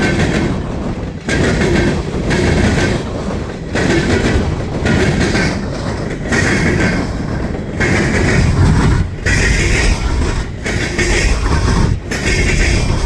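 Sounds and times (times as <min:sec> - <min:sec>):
train cars rolling on rails: 0:00.0 - 0:13.0.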